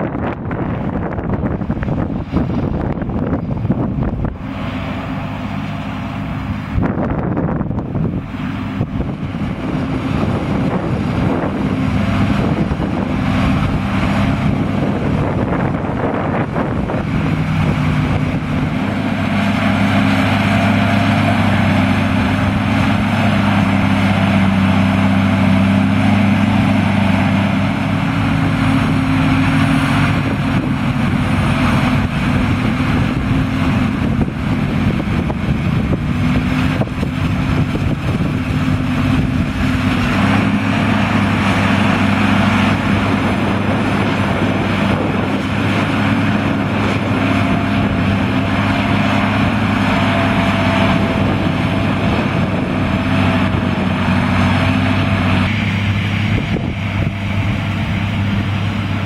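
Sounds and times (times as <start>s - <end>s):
tractor diesel engine: 0.0s - 59.0s
wind buffeting microphone: 0.0s - 59.0s.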